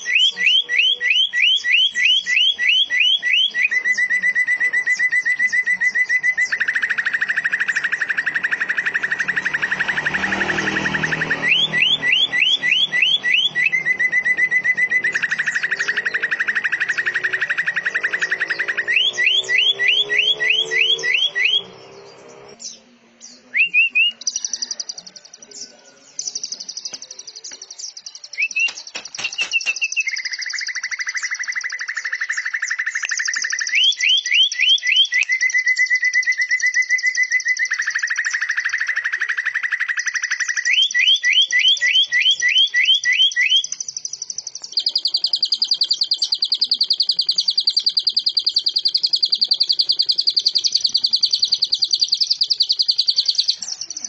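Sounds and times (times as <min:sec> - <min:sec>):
songbird trills and chirps: 0:00.0 - 0:54.0.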